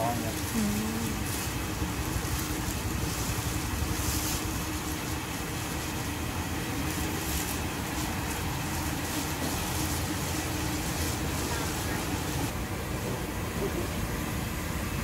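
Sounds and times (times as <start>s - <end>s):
oil sizzling in a wok: 0.0s - 13.0s
steady low rumble: 0.0s - 15.0s.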